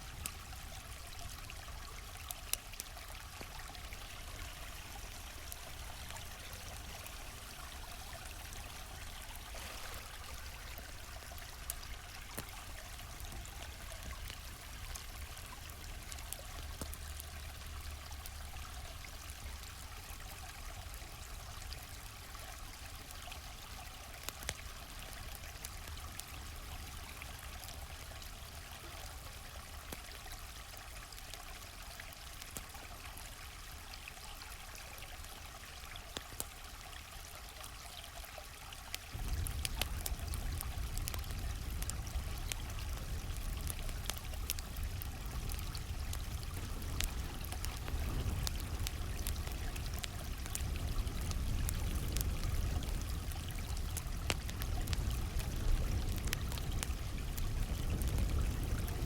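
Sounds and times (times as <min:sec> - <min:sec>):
campfire crackling and popping: 0:00.0 - 0:59.0
stream flowing: 0:00.0 - 0:59.0.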